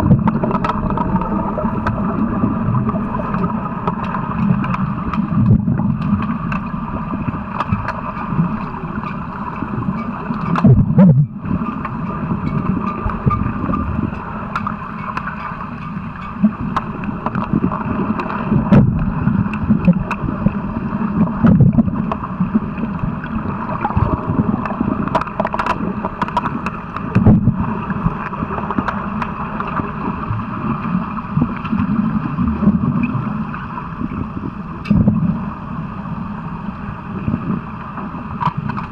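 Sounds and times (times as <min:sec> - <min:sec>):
bubbling from kicking fins: 0:00.0 - 0:14.7, 0:16.4 - 0:35.5
muffled underwater noise: 0:00.0 - 0:38.9.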